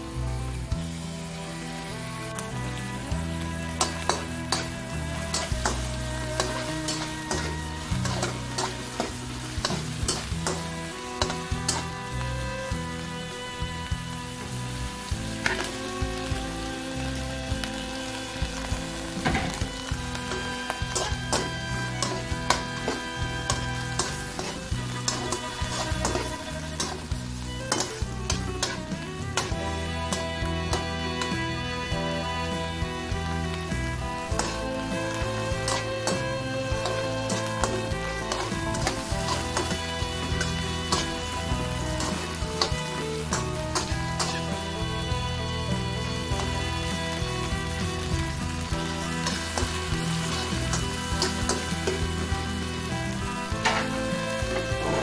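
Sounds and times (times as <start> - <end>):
background music: 0.0 - 55.0
food sizzling: 0.0 - 55.0
spatula scraping a wok: 1.4 - 15.8, 19.1 - 55.0.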